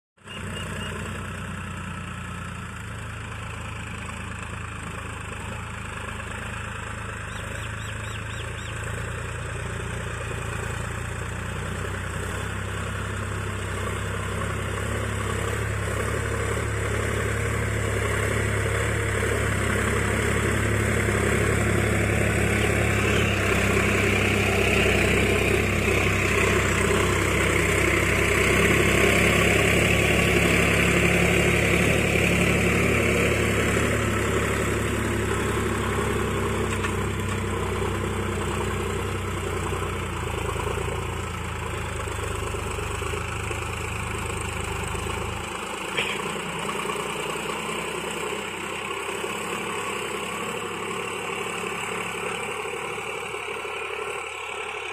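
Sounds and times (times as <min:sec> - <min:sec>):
tractor diesel engine under load: 0:00.2 - 0:54.9.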